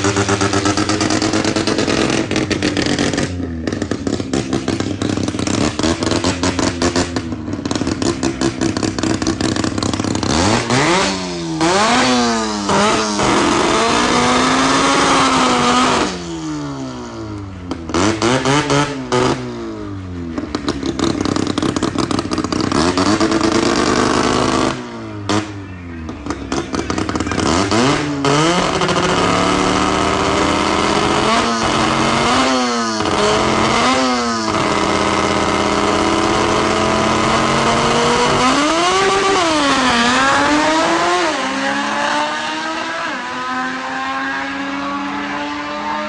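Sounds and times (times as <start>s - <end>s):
rotary engine revving: 0.0s - 46.0s.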